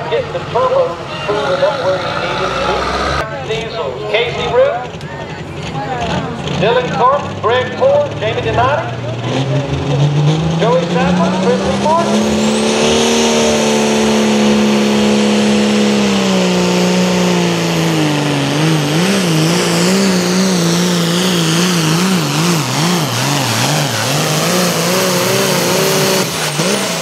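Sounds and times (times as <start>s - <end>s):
tractor diesel engine at full throttle: 0.0s - 27.0s.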